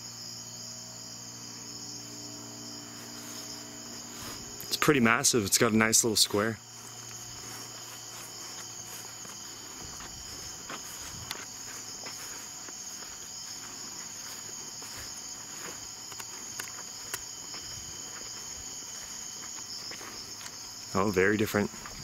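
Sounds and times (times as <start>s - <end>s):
night insects chorus: 0.0s - 22.0s.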